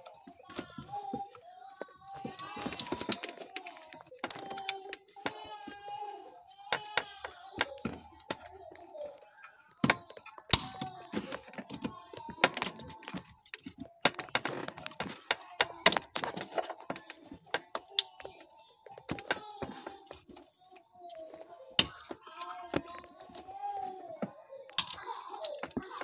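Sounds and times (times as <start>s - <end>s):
plastic and metal parts clicking: 0.0s - 26.0s.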